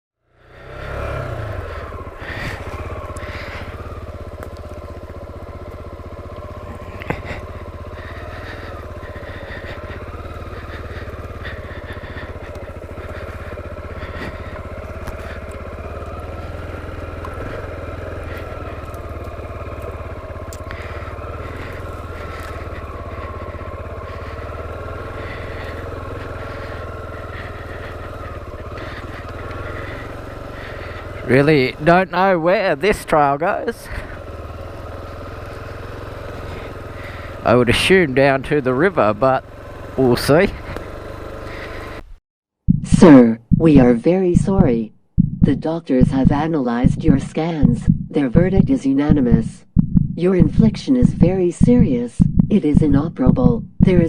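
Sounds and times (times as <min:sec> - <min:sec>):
motorcycle engine running: 0:00.2 - 0:54.0.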